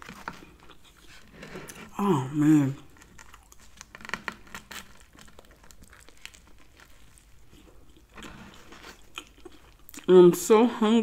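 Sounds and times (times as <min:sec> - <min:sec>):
biting and chewing crisp bread: 0:00.0 - 0:10.1.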